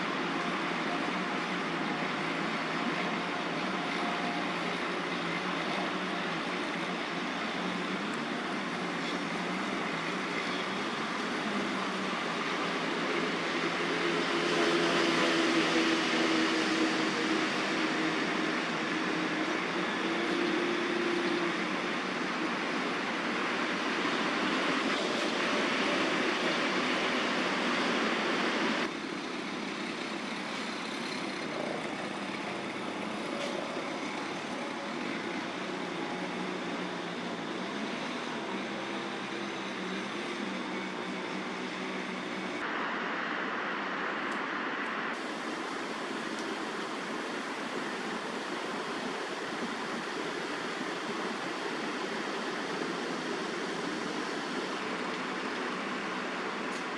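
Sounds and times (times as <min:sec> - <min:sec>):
distant city traffic: 0:00.0 - 0:56.9.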